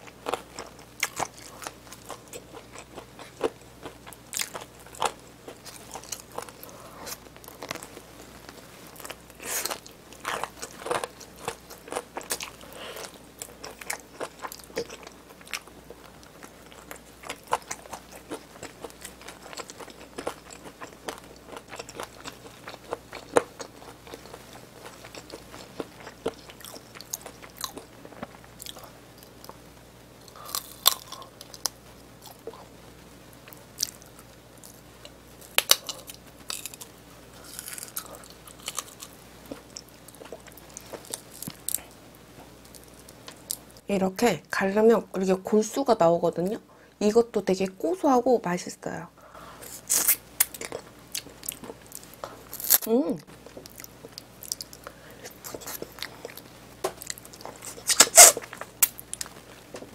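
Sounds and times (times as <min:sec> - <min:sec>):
crunching fried chicken: 0:00.0 - 0:29.6, 0:30.2 - 0:32.6, 0:33.4 - 0:41.8, 0:49.6 - 0:59.9.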